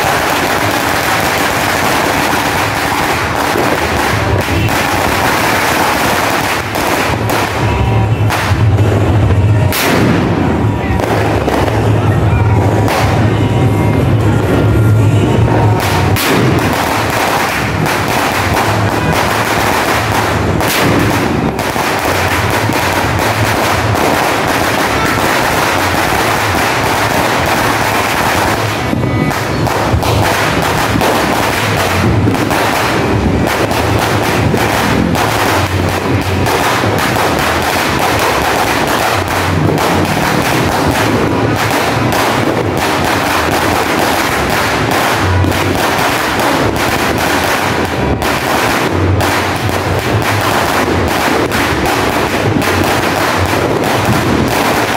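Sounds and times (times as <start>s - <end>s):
firecrackers banging rapidly: 0.0s - 54.9s.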